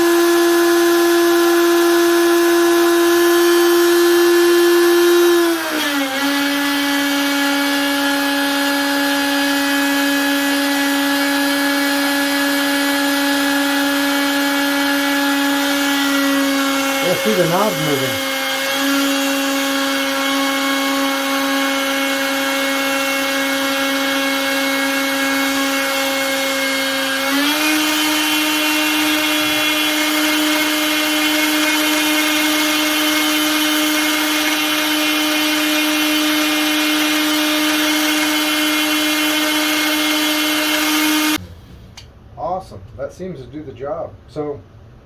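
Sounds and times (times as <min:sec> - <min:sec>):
router motor whining: 0:00.0 - 0:41.4.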